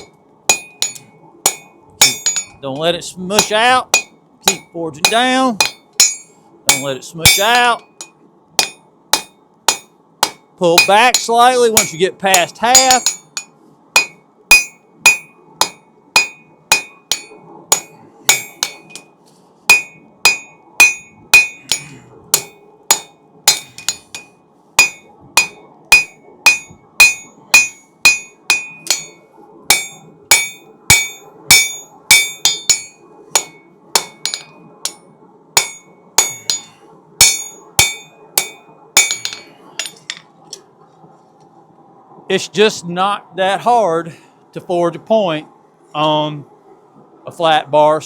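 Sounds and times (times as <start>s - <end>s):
hammer striking hot steel on anvil: 0.0s - 40.3s.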